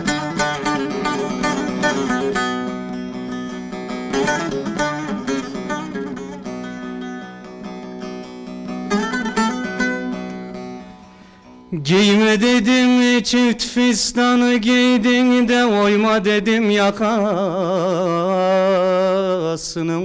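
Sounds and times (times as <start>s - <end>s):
plucked lute runs: 0.0s - 17.4s.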